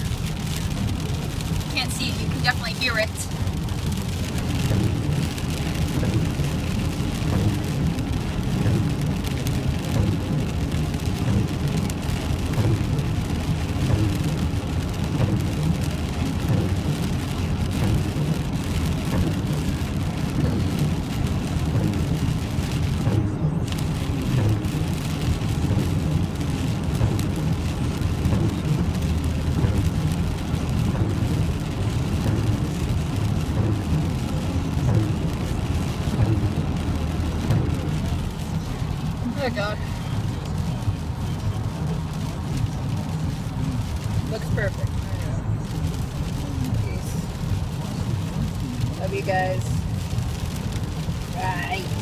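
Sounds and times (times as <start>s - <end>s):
car rumbling on road: 0.0s - 52.0s
rain and tyre spray hiss: 0.0s - 52.0s.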